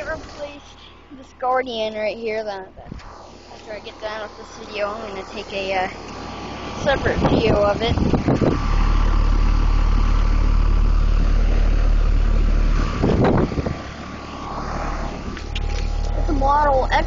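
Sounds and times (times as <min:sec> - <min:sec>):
air conditioner humming: 0:00.0 - 0:10.9, 0:12.7 - 0:17.0
wind buffeting microphone: 0:00.0 - 0:17.0.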